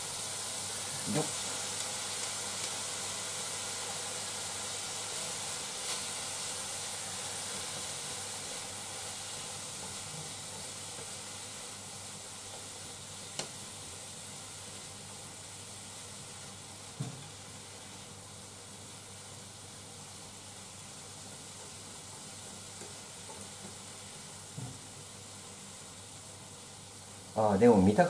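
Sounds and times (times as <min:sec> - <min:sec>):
food sizzling in frying pan: 0:00.0 - 0:28.0.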